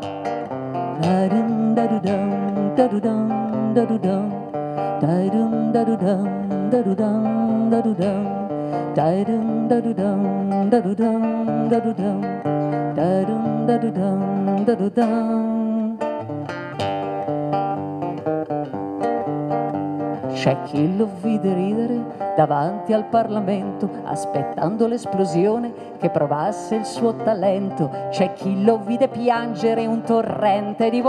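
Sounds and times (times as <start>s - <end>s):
acoustic guitar rhythmic figure: 0.0s - 31.0s.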